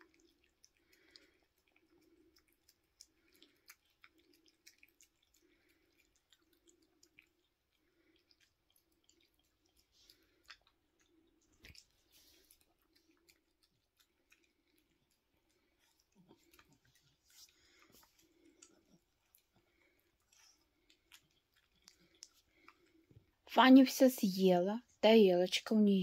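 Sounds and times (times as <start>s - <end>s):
dog chewing and licking: 0.0s - 23.5s.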